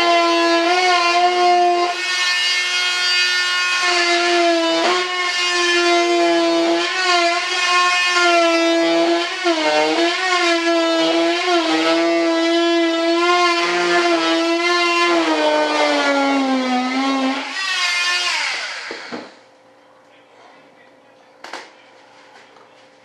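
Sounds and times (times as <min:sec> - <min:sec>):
rotary cutter whining: 0:00.0 - 0:19.4.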